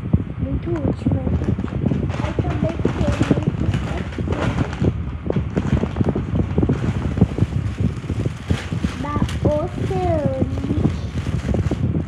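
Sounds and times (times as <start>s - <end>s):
plastic bag crumpled in hands: 1.3s - 12.0s
shopping bags rustling: 1.4s - 11.9s.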